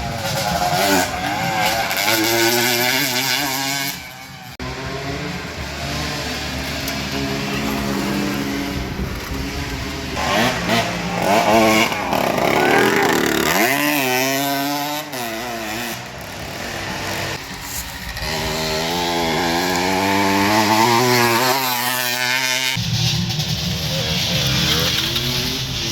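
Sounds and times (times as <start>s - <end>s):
two-stroke motorcycle engines revving: 0.0s - 25.9s.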